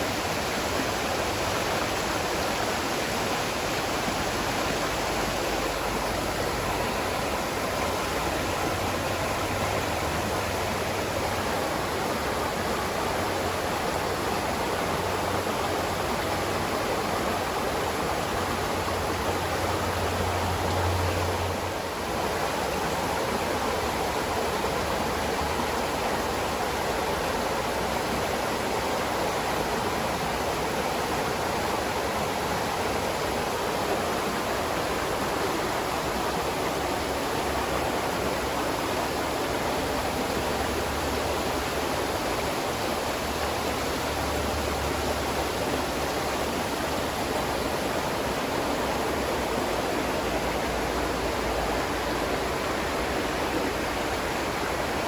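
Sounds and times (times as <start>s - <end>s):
spring water flowing and splashing: 0.0s - 55.0s.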